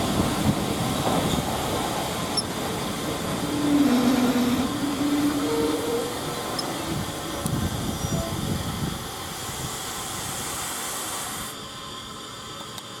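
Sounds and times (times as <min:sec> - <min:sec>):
steam hiss: 0:00.0 - 0:13.0
steam train rumbling: 0:00.0 - 0:13.0.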